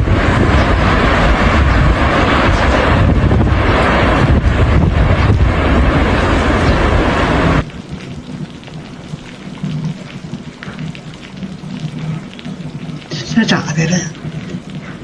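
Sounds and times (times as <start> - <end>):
steady rain: 0.0 - 15.0
strong wind buffeting microphone: 0.0 - 15.0.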